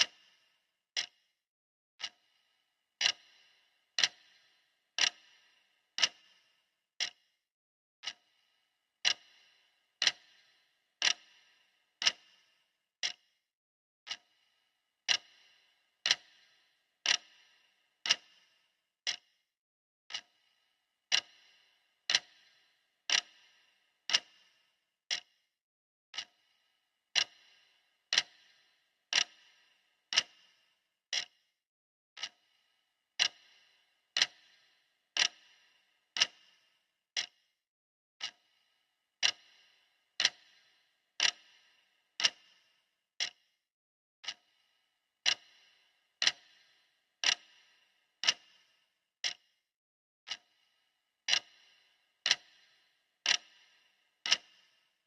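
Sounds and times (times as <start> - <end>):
clock ticking: 0.0 - 1.3, 2.0 - 7.3, 8.0 - 13.3, 14.0 - 19.4, 20.1 - 20.5, 21.1 - 25.4, 26.1 - 31.4, 32.2 - 32.6, 33.2 - 37.5, 38.2 - 43.5, 44.2 - 49.6, 50.3 - 55.0.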